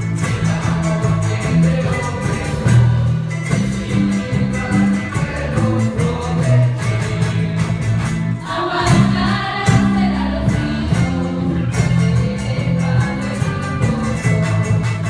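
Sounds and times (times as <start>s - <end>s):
group singing: 0.0s - 15.0s
percussion beat: 0.0s - 15.0s.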